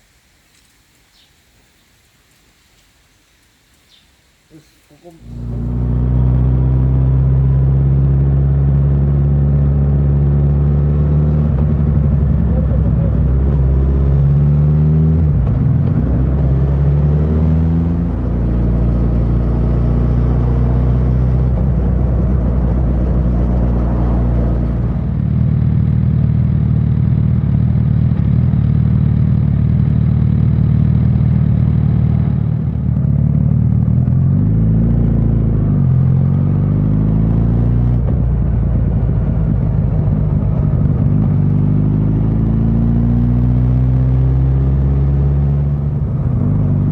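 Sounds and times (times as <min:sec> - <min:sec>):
motorcycle engine accelerating: 0:04.6 - 0:46.9.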